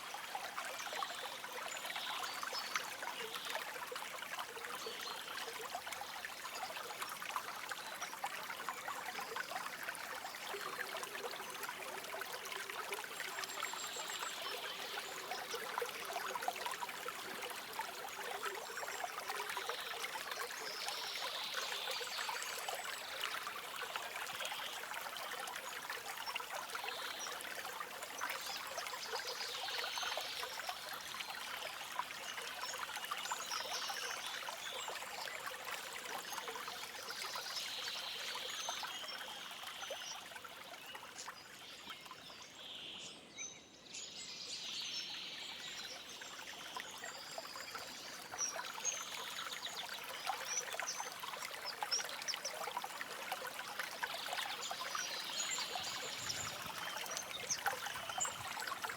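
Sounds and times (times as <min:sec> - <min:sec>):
stream trickling and splashing: 0:00.0 - 0:58.9.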